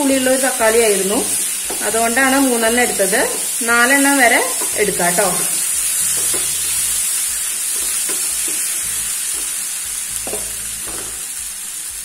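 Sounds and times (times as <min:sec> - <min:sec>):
masala sizzling in oil: 0:00.0 - 0:12.0.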